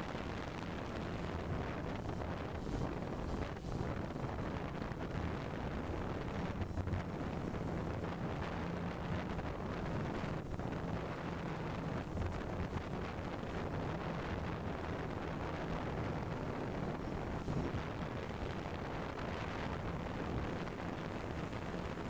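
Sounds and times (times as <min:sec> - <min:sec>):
wind buffeting microphone: 0:00.0 - 0:22.0
propellers humming: 0:00.4 - 0:22.0.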